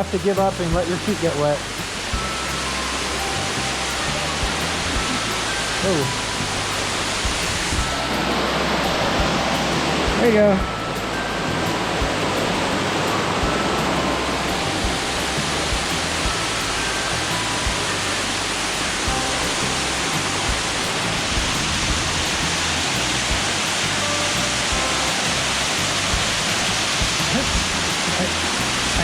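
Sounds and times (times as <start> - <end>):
waterfall roar: 0.0 - 29.0.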